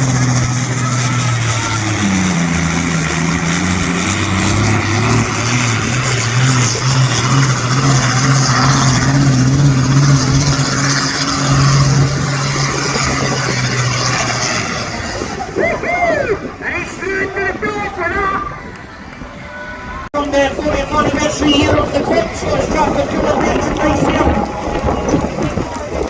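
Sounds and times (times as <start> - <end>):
tractor engine at high revs: 0.0 - 18.3, 20.1 - 26.0.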